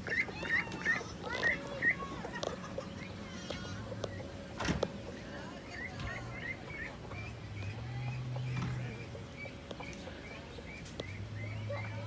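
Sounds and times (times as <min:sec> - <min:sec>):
bird chirping: 0:00.1 - 0:12.0.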